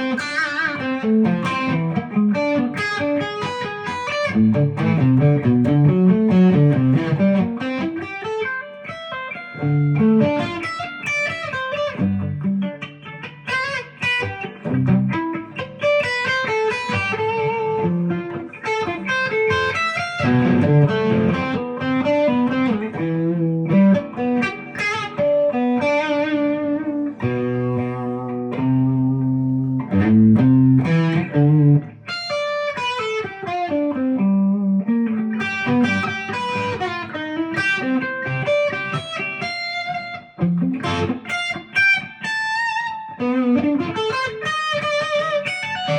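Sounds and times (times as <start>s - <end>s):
electric guitar through an amp: 0.0s - 45.9s.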